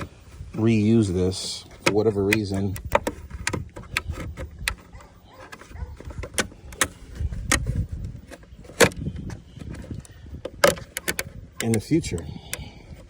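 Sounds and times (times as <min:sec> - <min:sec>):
handling rustle: 0:00.0 - 0:13.0
sharp plastic clicks and knocks: 0:01.4 - 0:13.0.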